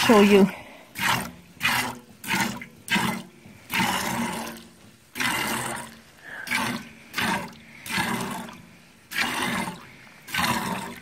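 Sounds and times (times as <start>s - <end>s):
milk squirting into a pail: 0.9s - 11.0s.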